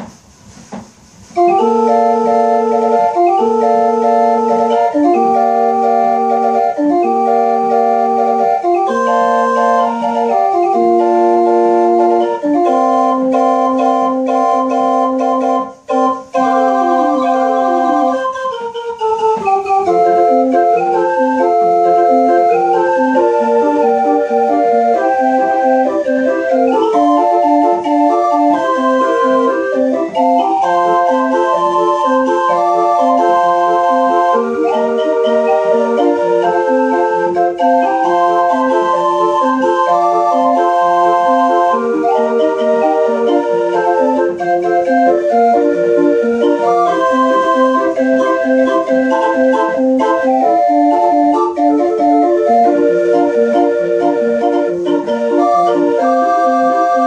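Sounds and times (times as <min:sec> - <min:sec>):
barrel organ with wooden pipes: 0:00.0 - 0:57.0.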